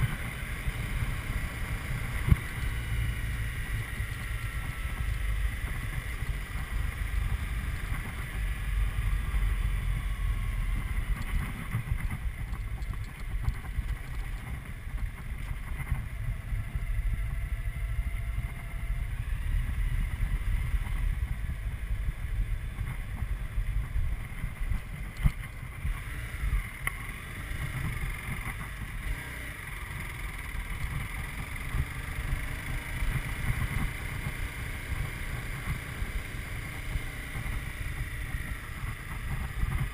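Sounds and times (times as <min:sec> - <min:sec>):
motorcycle engine running: 0:00.0 - 0:39.9
road rumble: 0:00.0 - 0:39.9.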